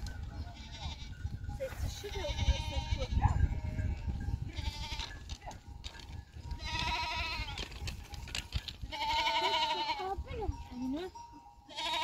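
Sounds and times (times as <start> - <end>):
goats and sheep bleating: 0.2 - 5.6, 6.4 - 8.0, 8.8 - 12.0.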